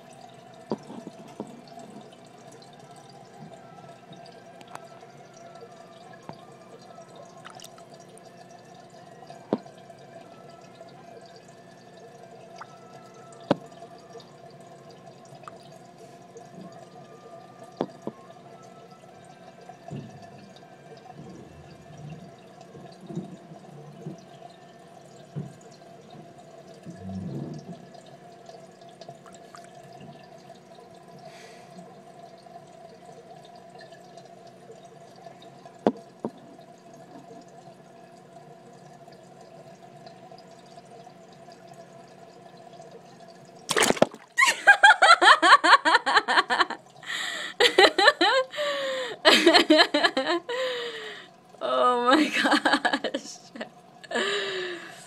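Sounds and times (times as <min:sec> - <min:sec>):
water dripping and trickling: 0:00.0 - 0:55.0.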